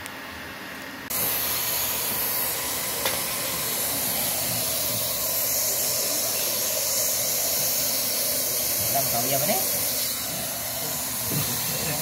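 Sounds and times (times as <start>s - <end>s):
heat gun hissing: 1.1s - 12.0s.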